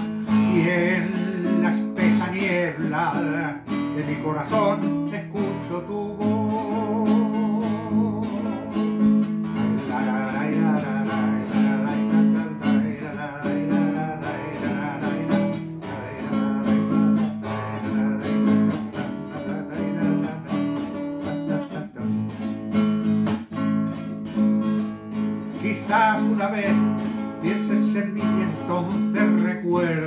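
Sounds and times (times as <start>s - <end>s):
classical guitar strummed chords: 0.0s - 30.0s.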